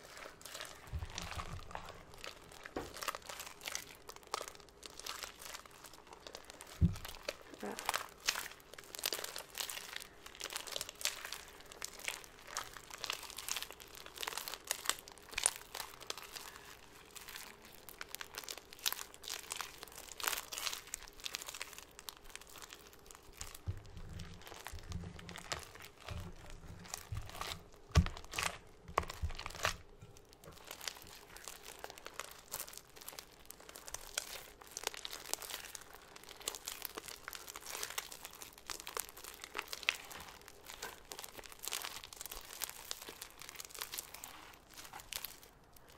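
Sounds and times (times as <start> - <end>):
slime crackling and crinkling: 0.0 - 45.9.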